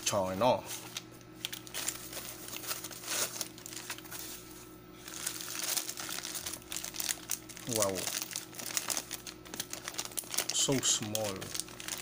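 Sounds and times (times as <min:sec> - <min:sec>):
plastic packaging crinkling: 0:00.8 - 0:12.0.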